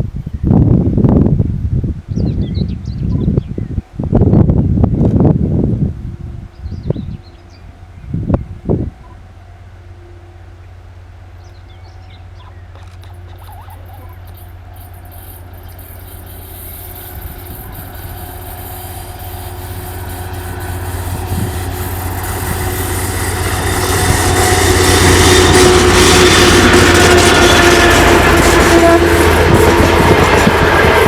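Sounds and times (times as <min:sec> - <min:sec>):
diesel locomotive engine drone: 0:00.0 - 0:31.0
rail and wheel noise: 0:00.0 - 0:31.0.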